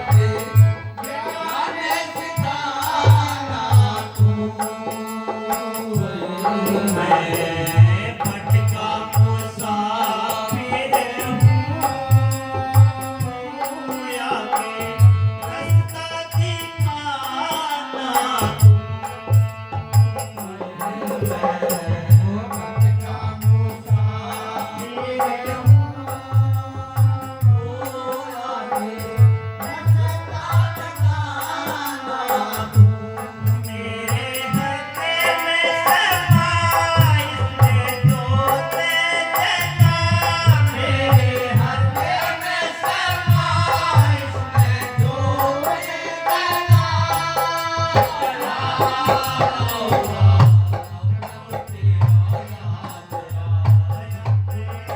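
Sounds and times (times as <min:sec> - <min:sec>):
devotional singing: 0:00.0 - 0:54.9.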